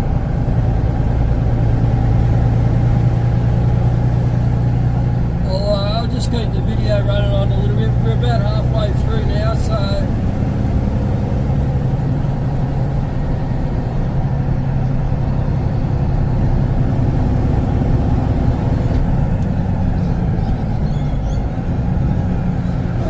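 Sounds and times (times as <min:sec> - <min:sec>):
road rumble: 0:00.0 - 0:23.0
truck diesel engine running: 0:00.0 - 0:23.0.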